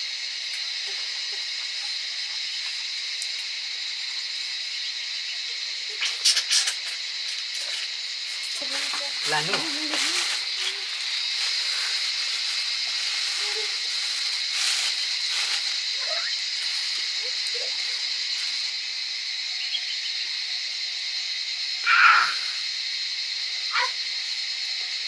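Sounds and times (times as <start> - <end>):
steady high-pitched hiss: 0.0 - 25.0.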